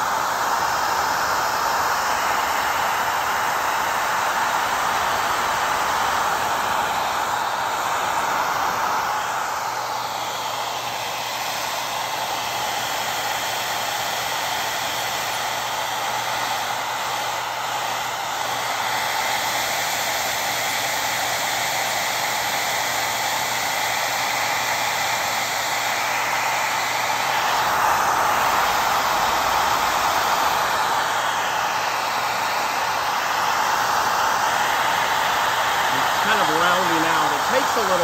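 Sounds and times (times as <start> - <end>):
hot-air blower hissing: 0.0 - 38.0.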